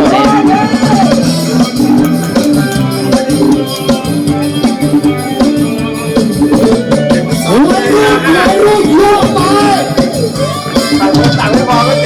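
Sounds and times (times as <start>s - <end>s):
shaker-like percussion: 0.0s - 11.6s
drums: 0.0s - 12.0s
steady held notes: 0.0s - 12.0s.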